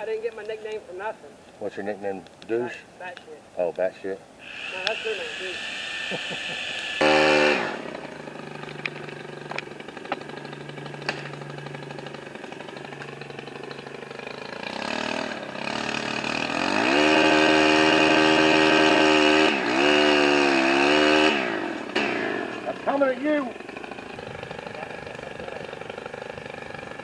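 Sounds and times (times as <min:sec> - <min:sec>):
chainsaw idling and revving: 0:04.4 - 0:27.0.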